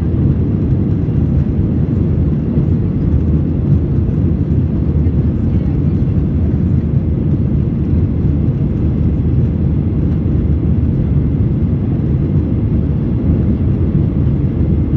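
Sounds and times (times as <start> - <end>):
jet engines rumbling at takeoff: 0.0 - 14.9.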